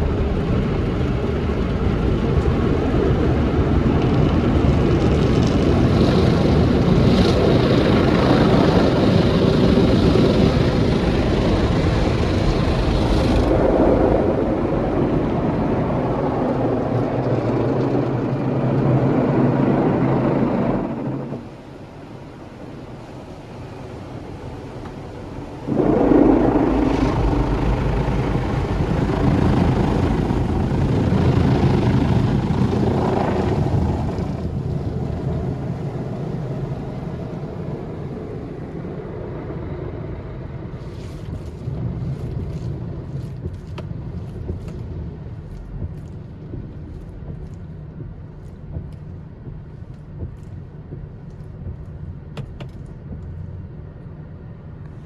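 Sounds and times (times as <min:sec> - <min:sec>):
car wash machine rushing: 0:00.0 - 0:51.2
low steady rumble: 0:00.0 - 0:55.0.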